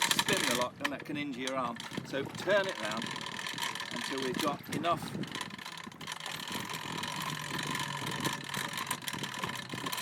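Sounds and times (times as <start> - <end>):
winch humming: 0.0 - 10.0.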